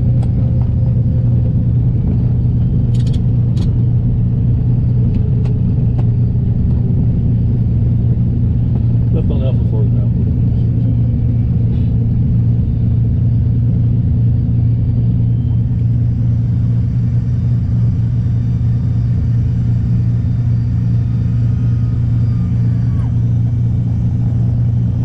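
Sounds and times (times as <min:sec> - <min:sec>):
airplane engines droning: 0:00.0 - 0:25.0.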